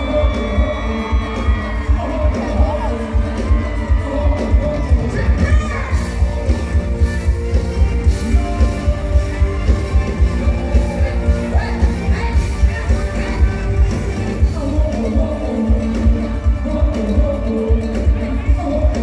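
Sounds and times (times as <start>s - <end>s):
dance-pop music with heavy bass: 0.0s - 19.0s
person singing: 0.0s - 19.0s.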